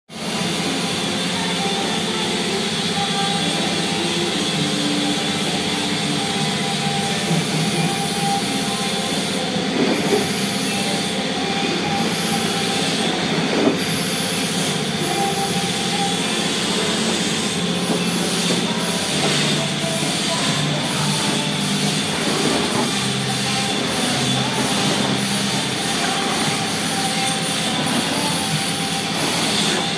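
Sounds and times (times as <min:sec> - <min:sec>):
machinery drone with whining tones: 0:00.2 - 0:29.9.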